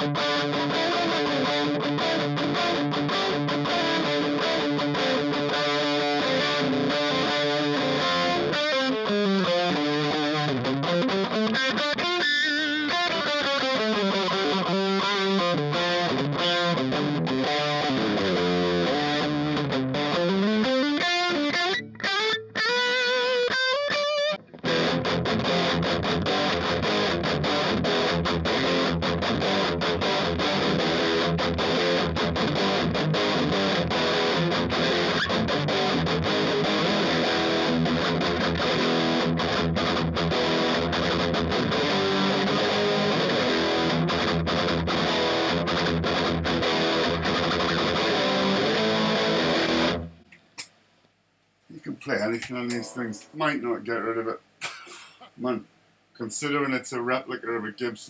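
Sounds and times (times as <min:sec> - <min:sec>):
distorted electric guitar: 0:00.0 - 0:50.7, 0:51.6 - 0:58.0.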